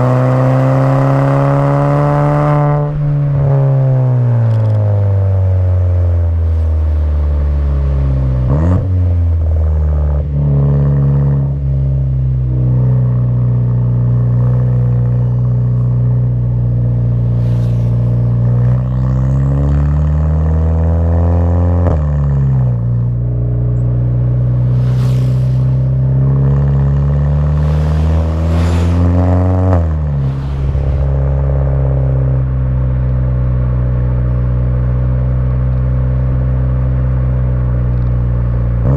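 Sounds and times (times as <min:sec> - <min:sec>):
turbocharged car engine accelerating: 0:00.0 - 0:38.9.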